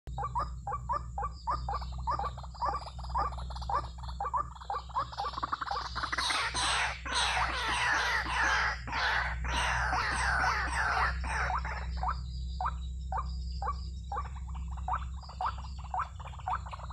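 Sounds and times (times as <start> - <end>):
waterhens croaking calls: 0.1 - 16.9.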